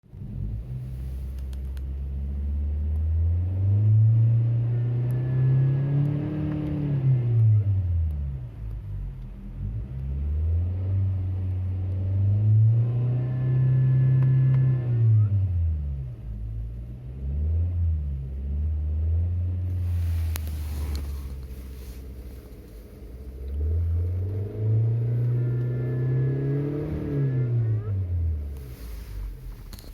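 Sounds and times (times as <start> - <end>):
car engine revving: 0.1 - 29.9.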